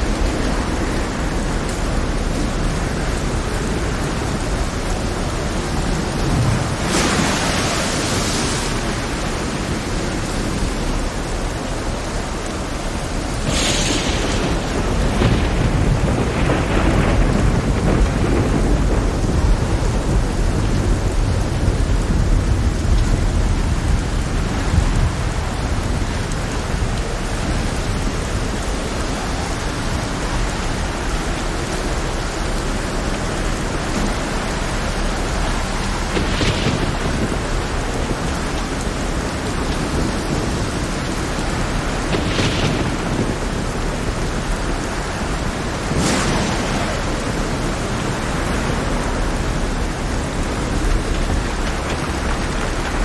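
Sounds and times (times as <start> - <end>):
rumbling thunder: 0.0 - 12.0, 12.8 - 53.0
heavy rain pouring: 0.0 - 53.0.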